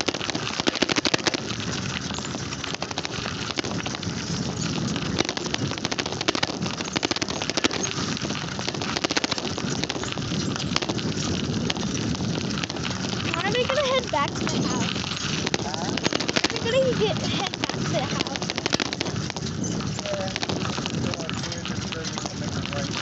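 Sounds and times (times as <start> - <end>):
bicycle rattling clicks: 0.0 - 23.0
wind on microphone: 0.0 - 23.0.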